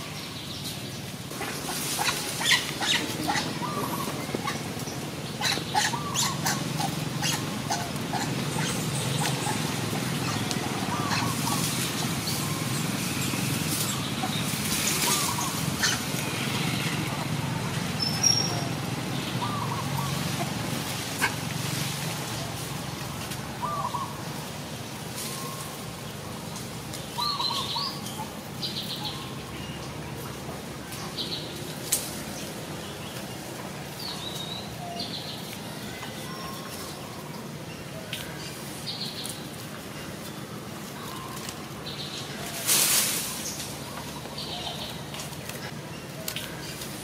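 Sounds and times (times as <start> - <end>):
birds chirping: 0.0 - 21.5, 25.2 - 47.0.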